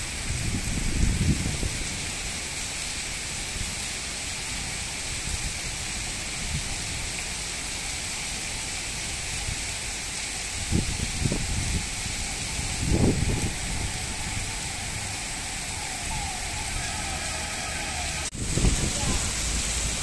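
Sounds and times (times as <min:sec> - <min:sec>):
heavy rain on trees: 0:00.0 - 0:20.0.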